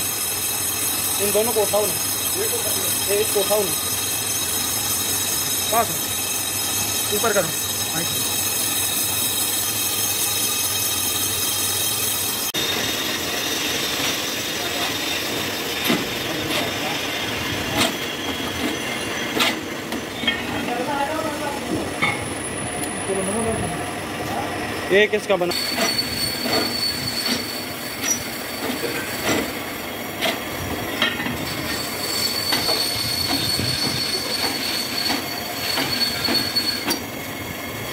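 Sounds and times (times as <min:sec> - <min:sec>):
workshop machinery running: 0:00.0 - 0:37.9.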